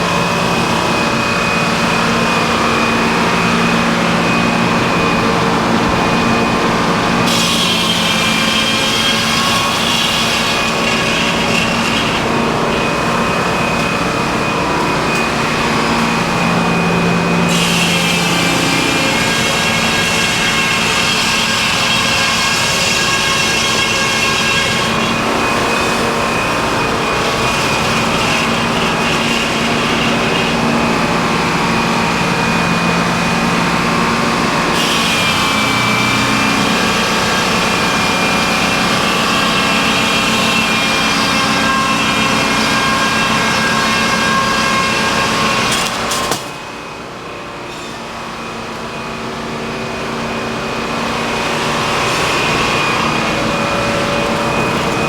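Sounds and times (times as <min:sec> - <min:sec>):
sawmill machinery whining drone: 0:00.0 - 0:55.0.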